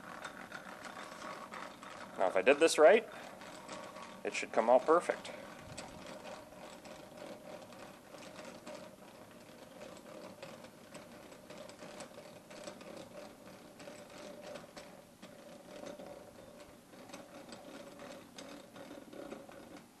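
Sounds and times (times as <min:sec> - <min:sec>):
metal clicks and scrapes: 0:00.0 - 0:20.0.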